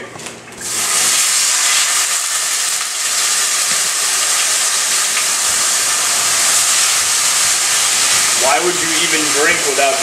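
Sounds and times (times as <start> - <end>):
chicken sizzling in a pan: 0.6 - 10.0.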